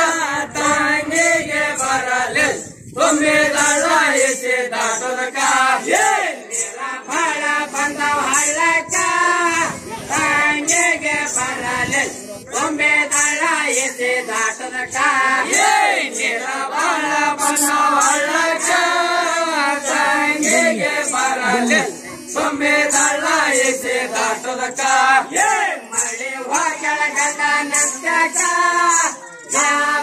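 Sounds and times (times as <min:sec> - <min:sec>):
men singing in chorus: 0:00.0 - 0:30.0
metallic jingle: 0:00.0 - 0:30.0.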